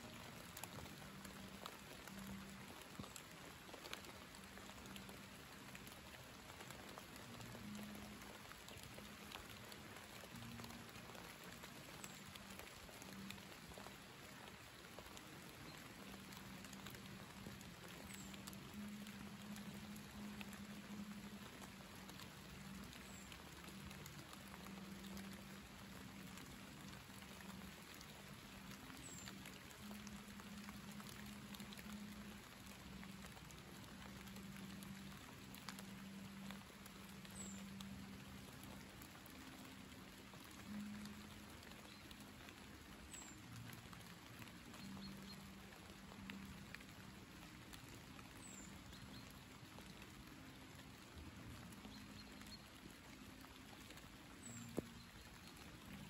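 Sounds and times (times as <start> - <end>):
light rain pattering on leaves: 0.0 - 56.0.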